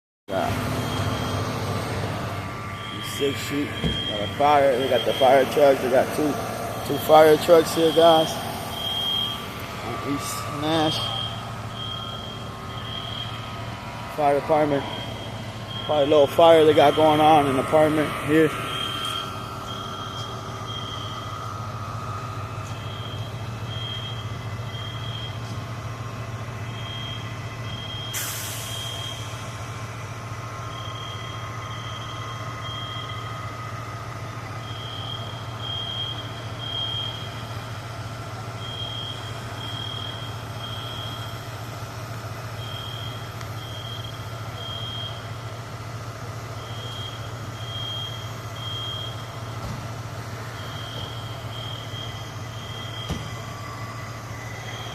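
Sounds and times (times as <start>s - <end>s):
fire alarm beeping: 0.3s - 1.6s, 2.4s - 29.6s, 30.6s - 37.6s, 38.5s - 45.9s, 46.5s - 49.6s, 50.3s - 54.9s
fire truck engine idling: 0.3s - 54.9s.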